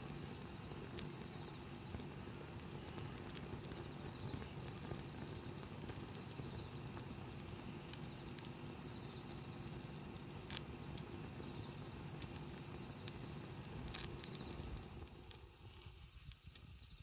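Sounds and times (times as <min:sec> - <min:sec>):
high thin insect call: 0:00.0 - 0:17.0
low steady rustle: 0:00.0 - 0:17.0
campfire crackling and popping: 0:00.5 - 0:16.7.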